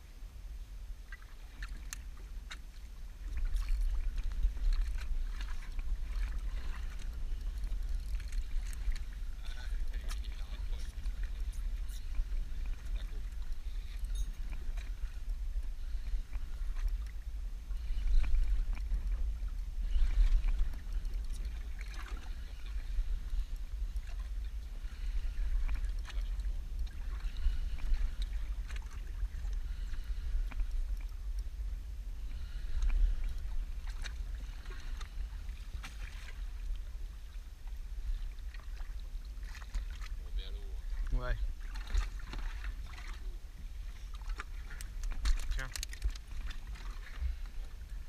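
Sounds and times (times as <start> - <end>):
small waves lapping against boat hull: 0.0 - 48.0
wind rumble on microphone: 0.0 - 48.0.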